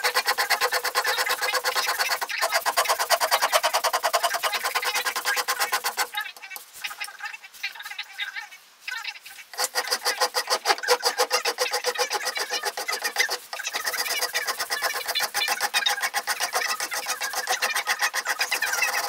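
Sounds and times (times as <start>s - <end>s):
metal file rasping on blade: 0.0s - 6.1s, 9.6s - 19.0s.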